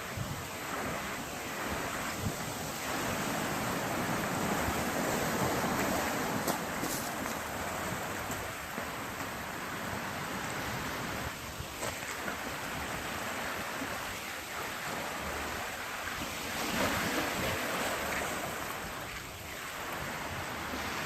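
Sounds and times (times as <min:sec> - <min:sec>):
sea surf washing in: 0:00.0 - 0:21.0
wind on microphone: 0:00.0 - 0:21.0.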